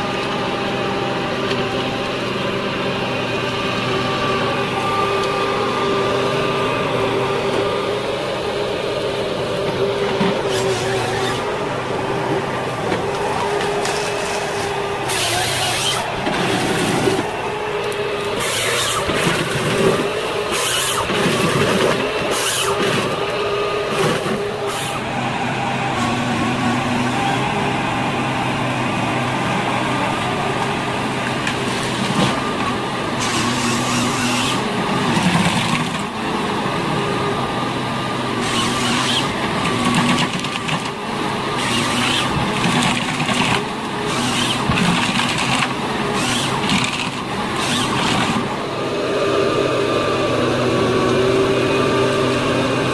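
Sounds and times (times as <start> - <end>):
diesel engine whining: 0.0 - 52.9.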